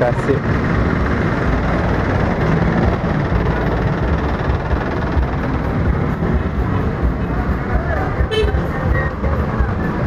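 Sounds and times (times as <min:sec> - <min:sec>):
minivan engines: 0:00.0 - 0:10.0
motorcycles passing: 0:00.0 - 0:10.0
street traffic rumble: 0:00.0 - 0:10.0.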